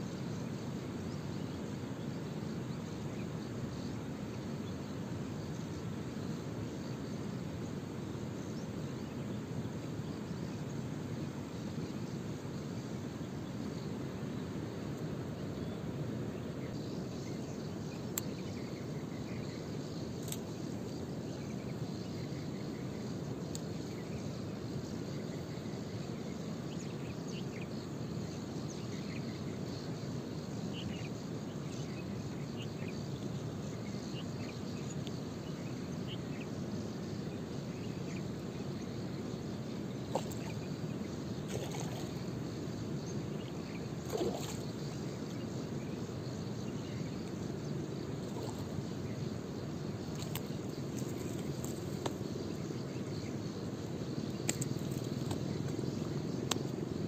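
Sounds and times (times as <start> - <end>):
insect chirps: 0.0 - 57.0.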